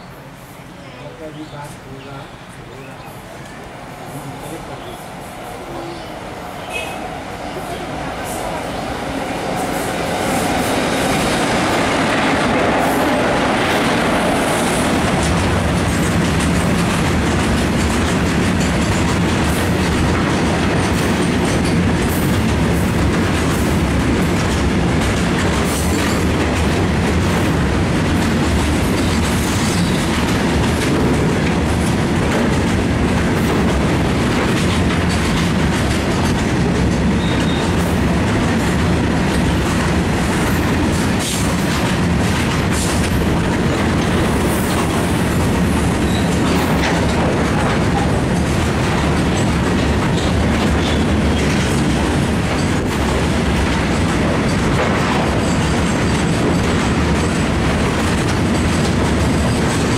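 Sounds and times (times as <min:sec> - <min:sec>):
train wheels rumbling on rail: 0:00.0 - 0:59.9
wheels clacking over rail joints: 0:07.5 - 0:59.9.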